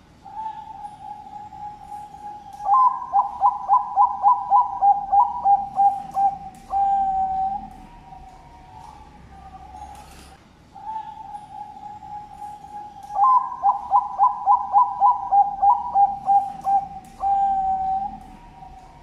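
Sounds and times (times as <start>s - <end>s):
dove cooing song: 0.0s - 19.0s.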